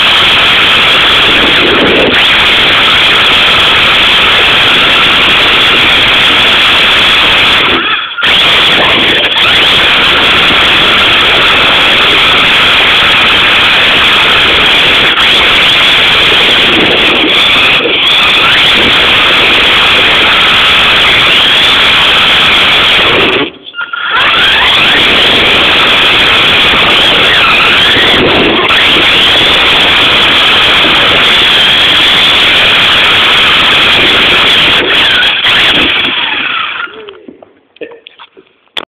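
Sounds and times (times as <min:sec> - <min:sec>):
rc car motor whining: 0:00.0 - 0:37.0.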